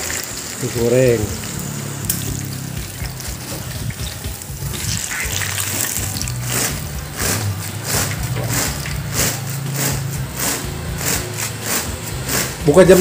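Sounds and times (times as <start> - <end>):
background music with steady beat: 0.0 - 13.0
hot oil sizzling in a wok: 0.0 - 13.0.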